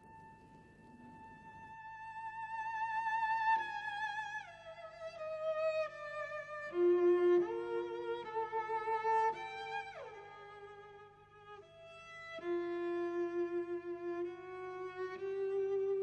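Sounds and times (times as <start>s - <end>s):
slow violin music: 0.0s - 16.0s.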